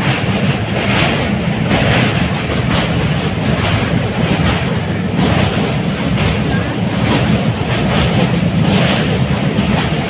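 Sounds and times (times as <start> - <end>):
train rumbling on rails: 0.0 - 10.0
wheels clicking over rail joints: 0.0 - 10.0.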